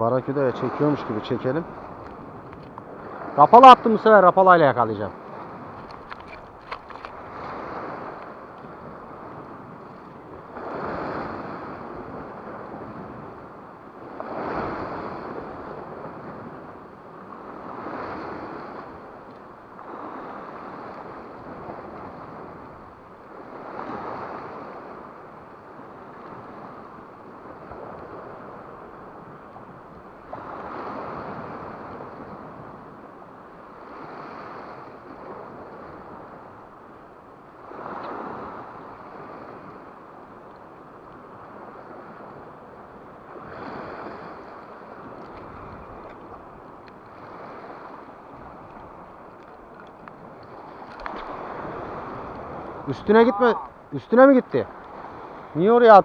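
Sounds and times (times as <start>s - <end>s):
sea waves washing against rocks: 0.1s - 56.0s.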